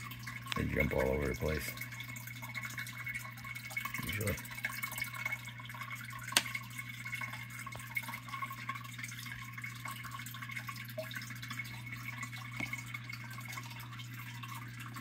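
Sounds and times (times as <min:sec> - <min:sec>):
water drips: 0:00.0 - 0:15.0.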